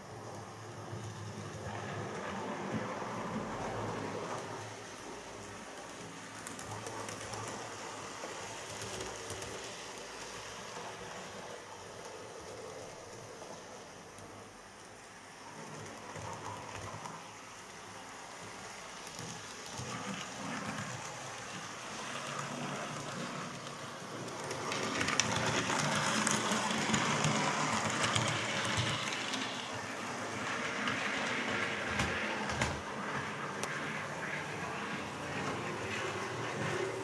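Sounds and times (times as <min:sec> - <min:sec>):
model locomotive motor whirring: 0:03.3 - 0:37.0.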